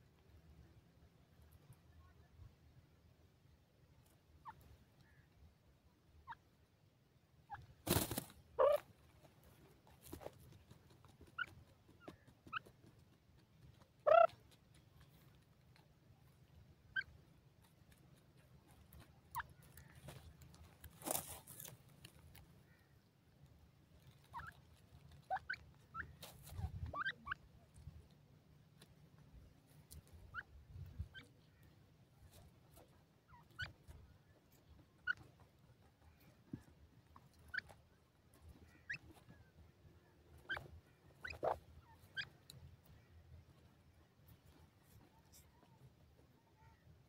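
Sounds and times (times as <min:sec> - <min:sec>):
young birds giving soft calls: 0:00.0 - 0:47.0.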